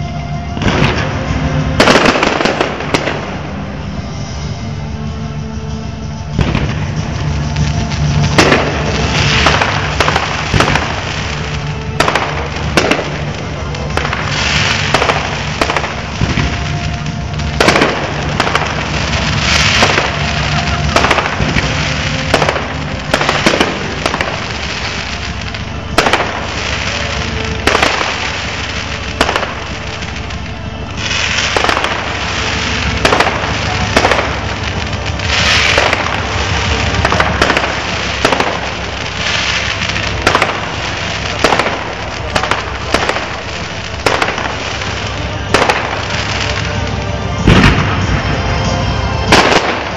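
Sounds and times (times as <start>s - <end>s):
fireworks hissing and crackling: 0.0s - 49.9s
firework shells bursting: 6.3s - 48.3s.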